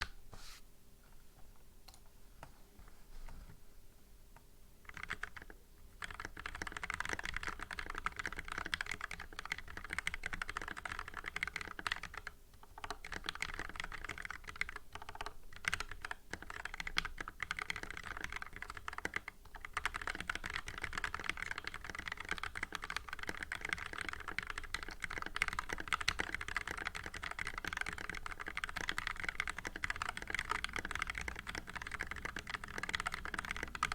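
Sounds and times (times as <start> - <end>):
mechanical keyboard typing: 4.9 - 33.9.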